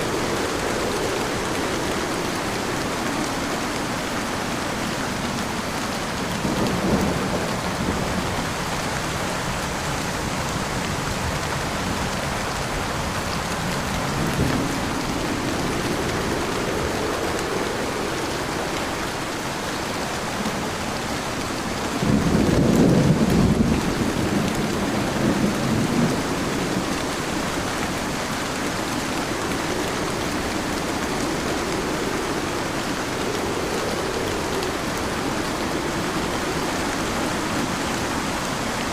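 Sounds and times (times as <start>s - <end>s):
heavy rain pouring: 0.0s - 38.9s
thunder rumbling: 0.0s - 38.9s.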